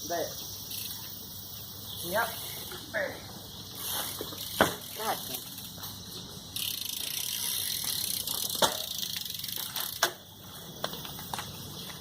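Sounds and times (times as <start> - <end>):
bike hub ratcheting: 0.4 - 2.9, 3.6 - 12.0.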